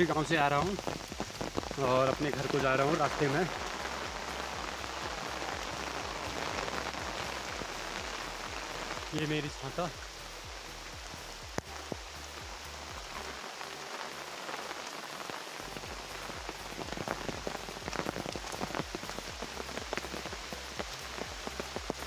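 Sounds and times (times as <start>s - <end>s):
heavy rain on umbrella: 0.0s - 22.0s.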